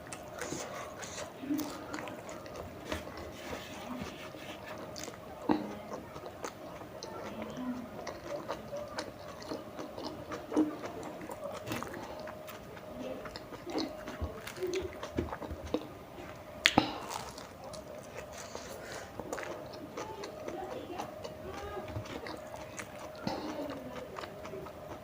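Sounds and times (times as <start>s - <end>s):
chewing and biting food: 0.0s - 25.0s.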